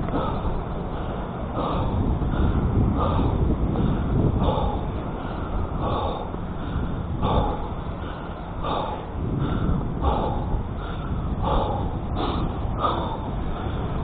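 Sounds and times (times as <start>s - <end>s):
person breathing hard: 0.0s - 14.0s
wind rumble on microphone: 0.0s - 14.0s.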